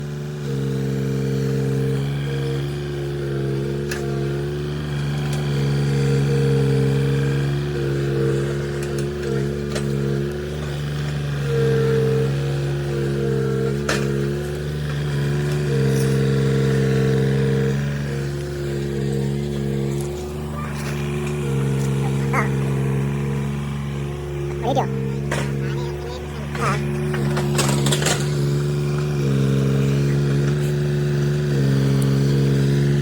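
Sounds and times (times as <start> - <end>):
mini excavator diesel engine: 0.0 - 33.0.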